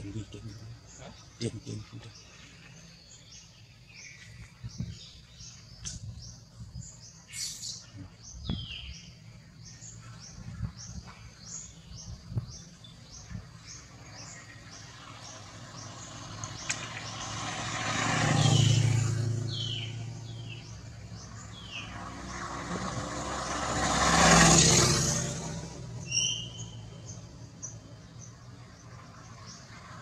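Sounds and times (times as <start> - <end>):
bird chirping: 0.0 - 30.0
vehicles passing: 0.0 - 30.0.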